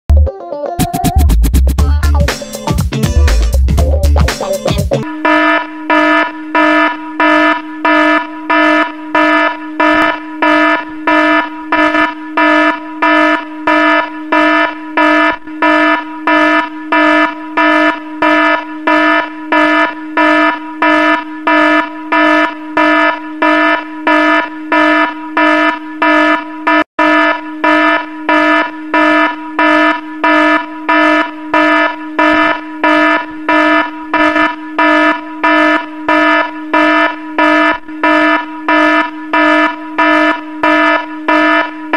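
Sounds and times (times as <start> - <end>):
electronic alarm beeping: 2.0 - 41.9.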